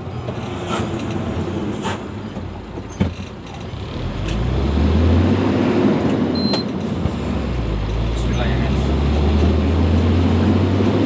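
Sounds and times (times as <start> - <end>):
log truck passing: 0.0 - 11.0.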